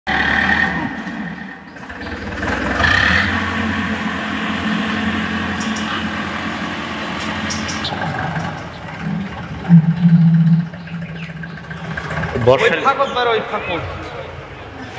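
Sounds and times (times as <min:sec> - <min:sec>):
tractor diesel engine droning: 0:00.1 - 0:14.8.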